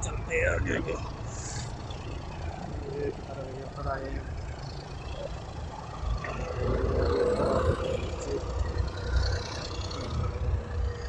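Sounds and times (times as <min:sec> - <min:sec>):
boat diesel engine rumbling: 0:00.0 - 0:11.0
indistinct bustle: 0:00.0 - 0:11.0.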